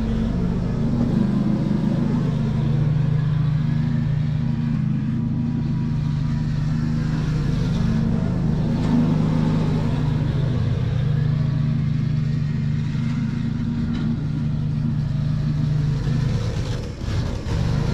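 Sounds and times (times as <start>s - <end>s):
snow blower engine running: 0.0s - 17.9s.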